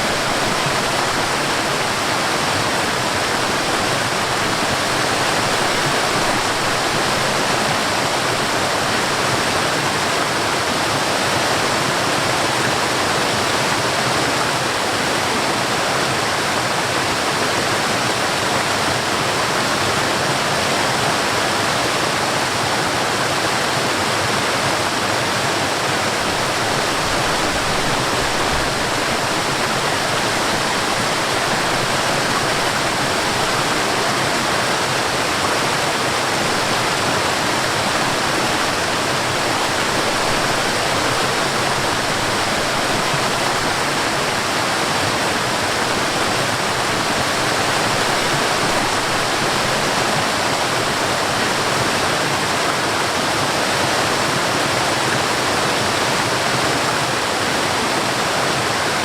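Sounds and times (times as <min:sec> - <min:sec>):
stream and waterfall rushing: 0:00.0 - 0:59.0.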